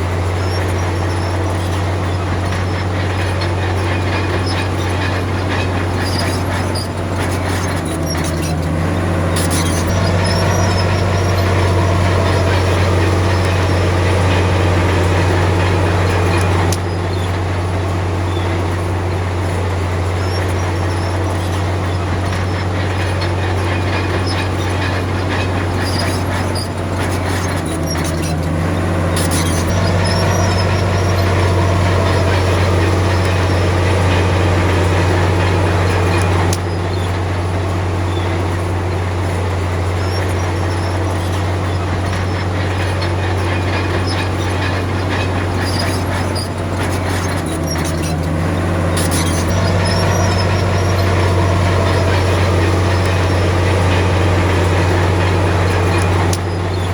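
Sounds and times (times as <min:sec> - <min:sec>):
bulldozer diesel engine running: 0:00.0 - 0:56.9
metallic clanking of tracks: 0:00.0 - 0:56.9.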